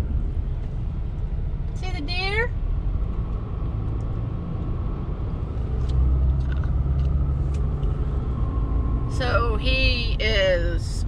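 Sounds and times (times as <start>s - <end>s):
engine and road rumble in cab: 0.0s - 11.0s.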